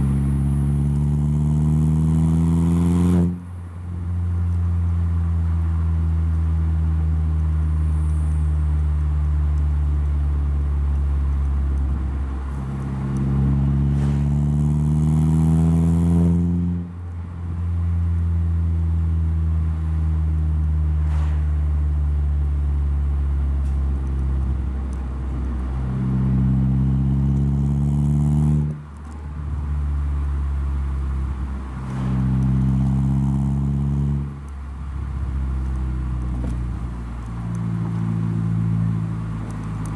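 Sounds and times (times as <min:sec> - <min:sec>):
car engine droning and accelerating: 0:00.0 - 0:39.9.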